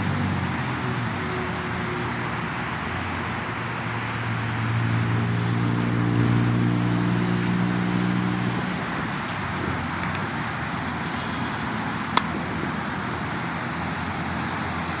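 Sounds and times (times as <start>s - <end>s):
low engine hum: 0.0s - 15.0s
road traffic from passing cars: 0.0s - 15.0s.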